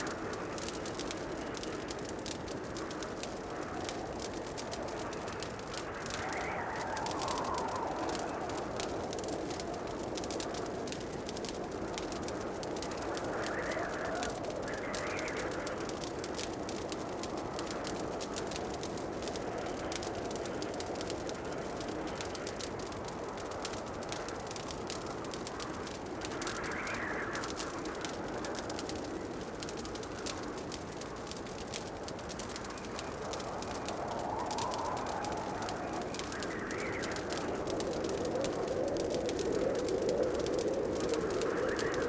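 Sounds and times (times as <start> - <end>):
fire rushing noise: 0.0 - 42.0
wood fire crackling and popping: 0.0 - 42.0.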